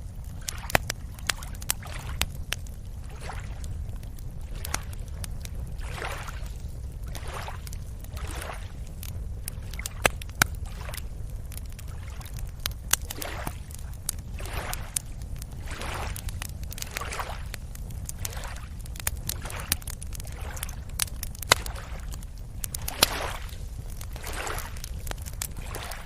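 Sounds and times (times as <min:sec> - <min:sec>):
small waves lapping: 0:00.3 - 0:02.2, 0:02.9 - 0:08.9, 0:09.5 - 0:13.8, 0:14.4 - 0:17.5, 0:18.1 - 0:18.7, 0:19.3 - 0:24.9, 0:25.5 - 0:26.0.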